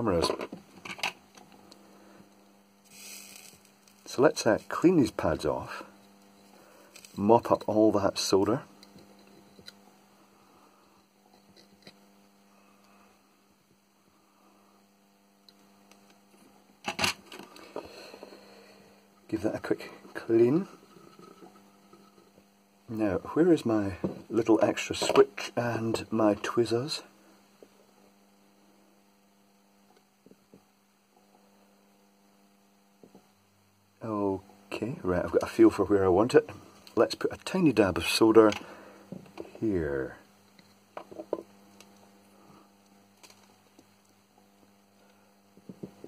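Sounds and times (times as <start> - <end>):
electrical hum: 0.0 - 46.0.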